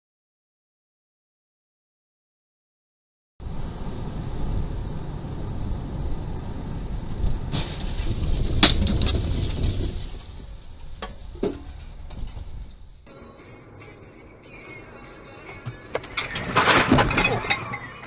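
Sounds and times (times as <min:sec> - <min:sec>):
tyre and engine rumble: 0:03.4 - 0:18.0.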